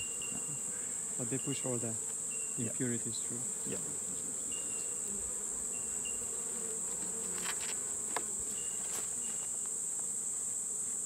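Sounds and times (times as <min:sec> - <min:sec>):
high-pitched insect drone: 0:00.0 - 0:10.0
honeybees humming: 0:00.0 - 0:11.0.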